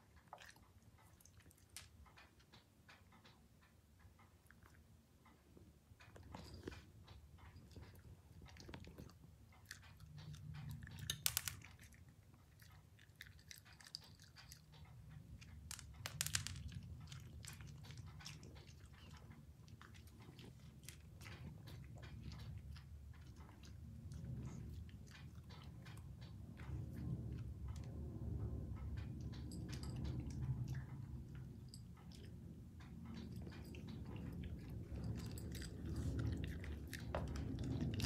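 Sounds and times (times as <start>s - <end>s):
dog chewing and crunching: 0.0s - 2.3s, 6.1s - 27.9s, 29.1s - 38.0s.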